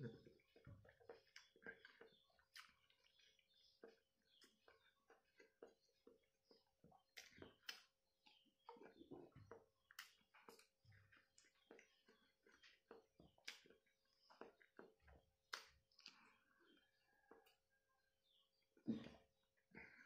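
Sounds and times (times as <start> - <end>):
wet chewing and gulping: 0.0 - 20.0.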